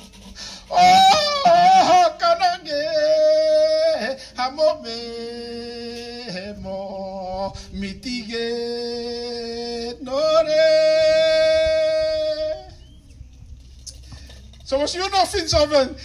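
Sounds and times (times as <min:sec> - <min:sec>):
man singing unaccompanied: 0:00.7 - 0:13.0, 0:14.7 - 0:16.0.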